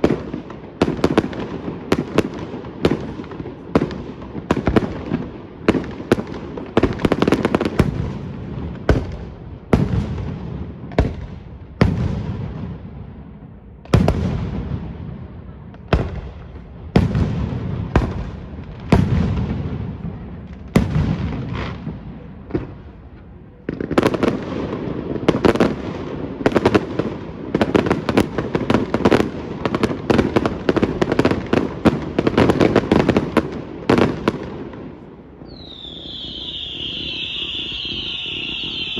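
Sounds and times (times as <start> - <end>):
fireworks bangs with rumbling echo: 0.0 - 38.9.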